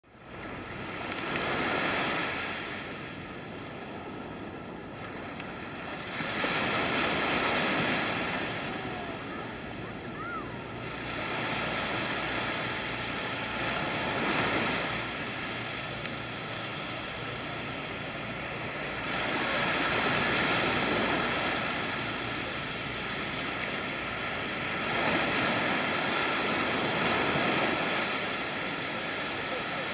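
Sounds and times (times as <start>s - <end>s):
small waves breaking on sand: 0.1s - 29.9s.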